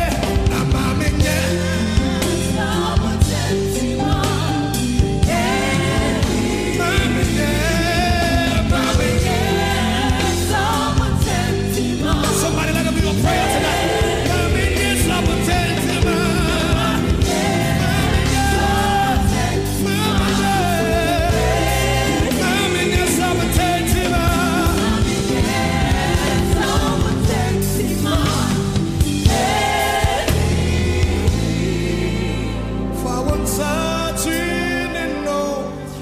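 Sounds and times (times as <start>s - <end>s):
band with bass and drums: 0.0s - 33.9s
backing singers: 0.0s - 36.0s
person singing lead vocal: 0.0s - 36.0s.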